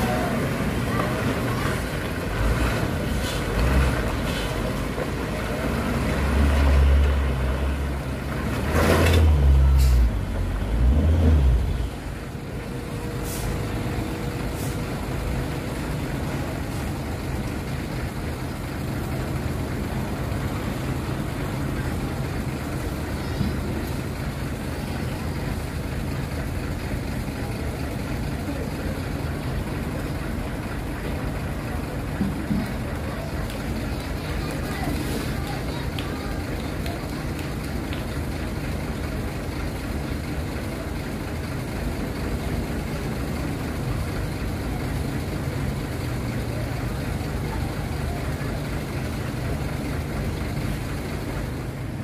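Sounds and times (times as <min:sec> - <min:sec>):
diesel truck engine under load: 0:00.0 - 0:52.0.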